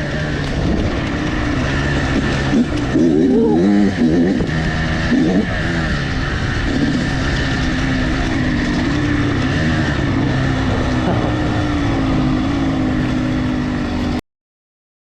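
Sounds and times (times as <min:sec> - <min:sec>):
dirt bike engine revving: 0:00.0 - 0:14.2
steady rushing noise: 0:00.0 - 0:14.2.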